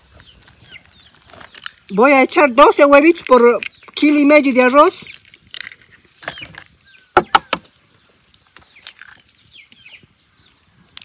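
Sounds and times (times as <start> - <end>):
eggshells cracking: 0.4 - 9.8.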